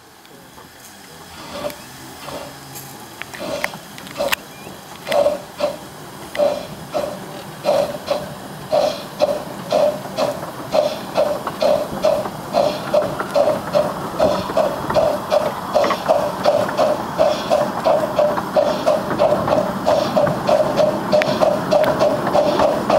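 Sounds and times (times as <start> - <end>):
steam locomotive chuffing: 0.0 - 22.9.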